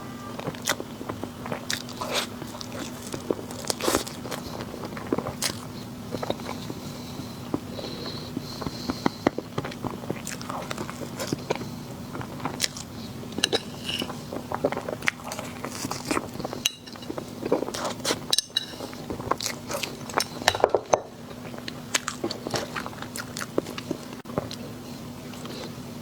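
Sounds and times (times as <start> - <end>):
person chewing crunchy sweets: 0.1 - 26.0.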